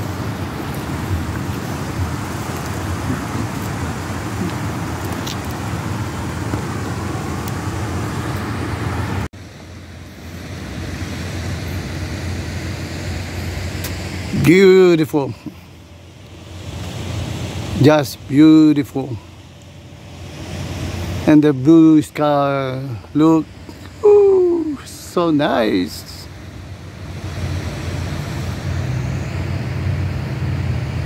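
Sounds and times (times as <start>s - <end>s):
low rumbling outdoor noise: 0.0s - 31.0s.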